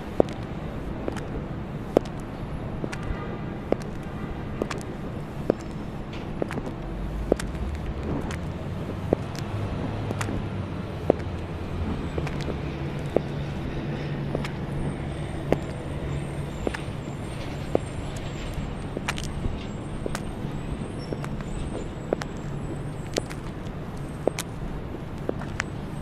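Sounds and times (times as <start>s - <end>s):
car traffic rumble: 0.0s - 26.0s
high heels clicking on pavement: 0.0s - 26.0s.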